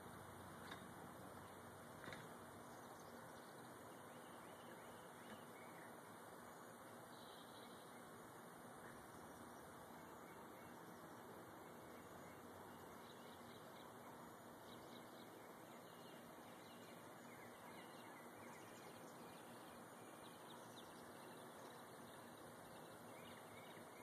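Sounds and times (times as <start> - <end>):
steady hiss: 0.0 - 24.0
distant birds chirping: 0.2 - 24.0.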